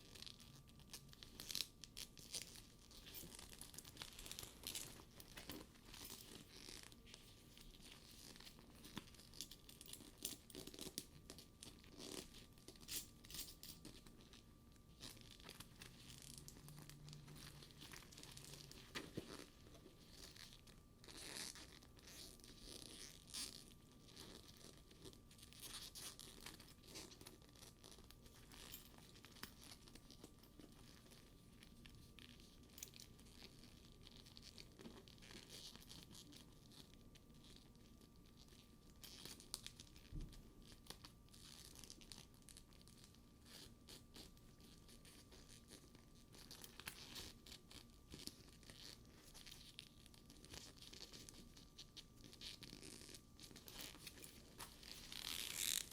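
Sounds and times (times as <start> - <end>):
leather purse crackling: 0.0 - 55.9.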